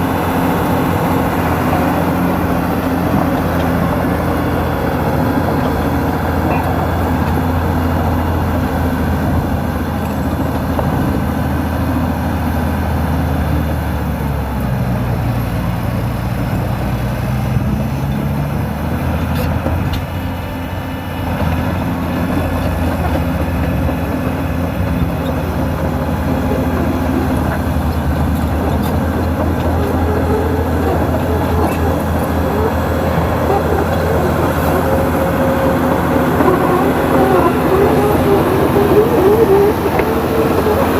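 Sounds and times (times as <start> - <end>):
dozer diesel engine under load: 0.0 - 40.9.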